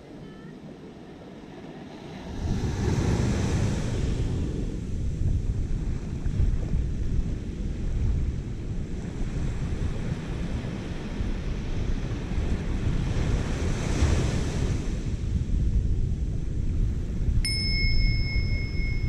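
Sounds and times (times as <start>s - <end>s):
small waves washing onto beach: 0.0s - 19.0s
wind buffeting microphone: 0.1s - 19.0s.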